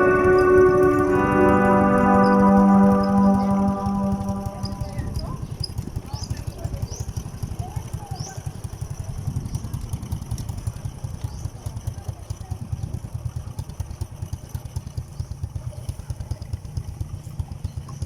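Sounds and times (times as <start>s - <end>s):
motorcycle engine running: 1.0s - 18.0s.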